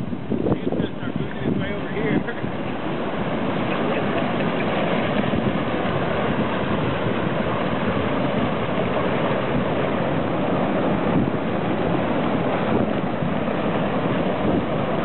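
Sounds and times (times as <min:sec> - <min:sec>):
flash flood rushing: 0:00.0 - 0:15.0.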